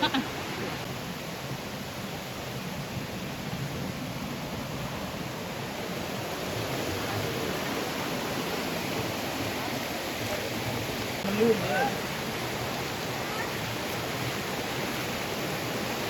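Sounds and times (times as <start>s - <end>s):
forest stream running: 0.0s - 16.0s.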